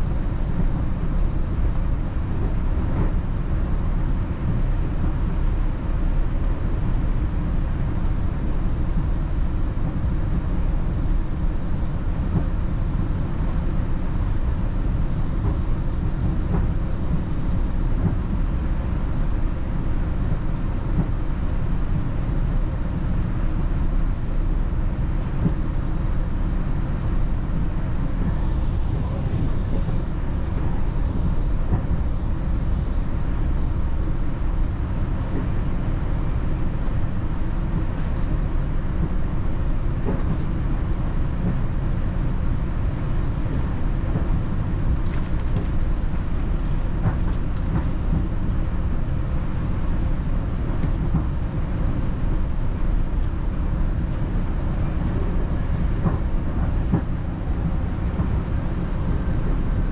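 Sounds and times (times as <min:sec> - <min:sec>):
commuter train rumble: 0:00.0 - 0:59.9.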